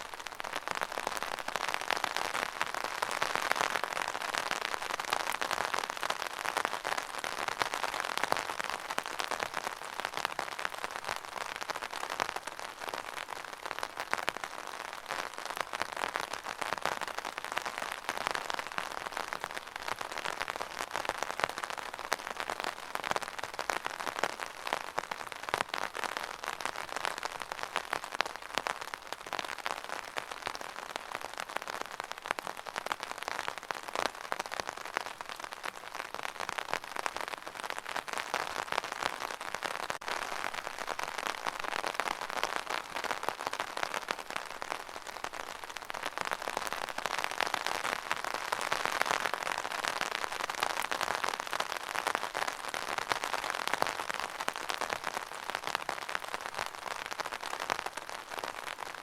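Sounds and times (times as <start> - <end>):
rain on a hard surface: 0.0 - 59.0.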